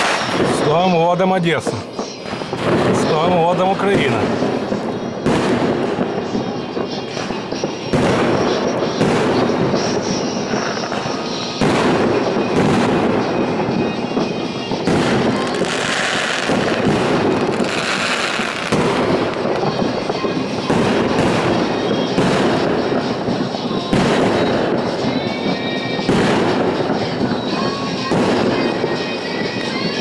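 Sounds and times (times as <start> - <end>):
fireworks crackling and popping: 0.0 - 30.0
loud firework bangs: 0.0 - 30.0.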